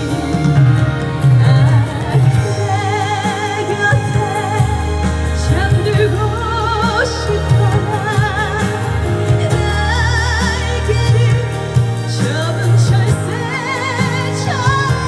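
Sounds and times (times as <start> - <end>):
slow ballad music: 0.0 - 15.0.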